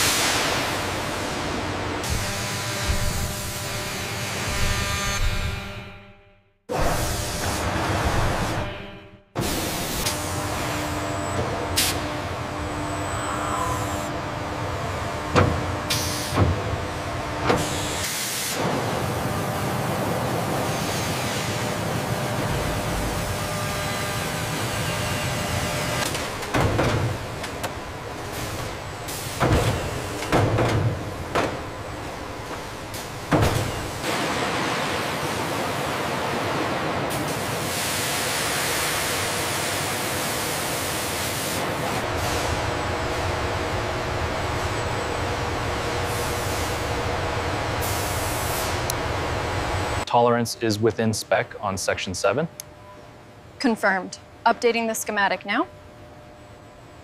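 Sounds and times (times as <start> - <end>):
machine running noisily: 0.0 - 6.1, 6.7 - 50.1.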